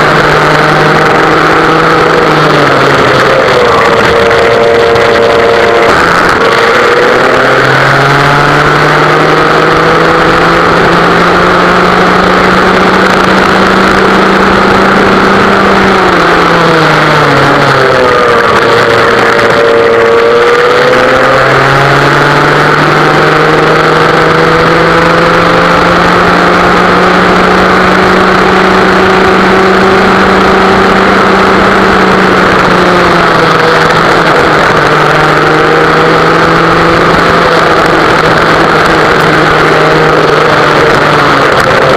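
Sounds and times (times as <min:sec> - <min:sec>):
kart engine running hard: 0:00.0 - 0:41.9.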